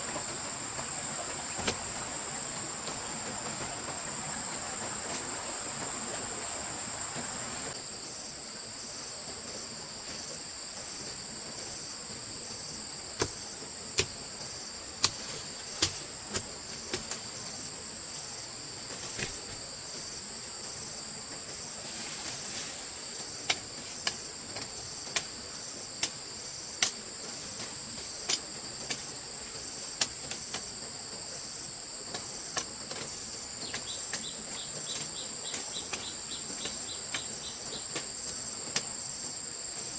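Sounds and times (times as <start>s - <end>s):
insects trilling: 0.0s - 9.1s, 10.8s - 39.9s.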